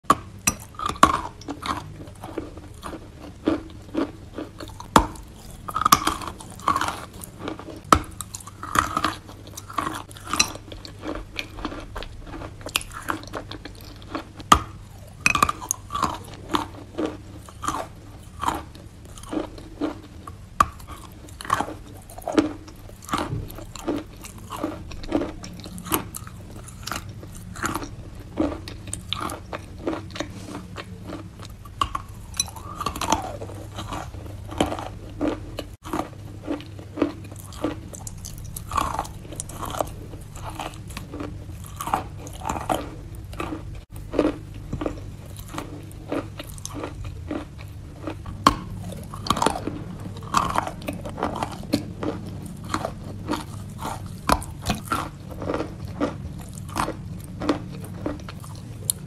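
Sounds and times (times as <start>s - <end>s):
biting and chewing chalk: 0.0s - 59.0s.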